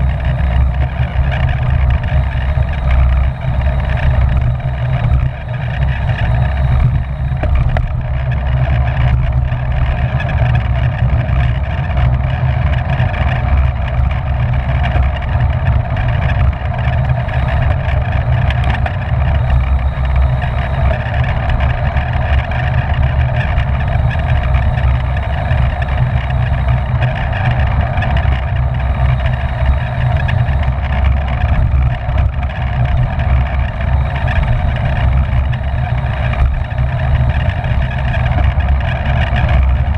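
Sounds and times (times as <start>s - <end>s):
bicycle tyres and drivetrain hum: 0.0s - 39.9s
wind rush on microphone: 0.0s - 39.9s.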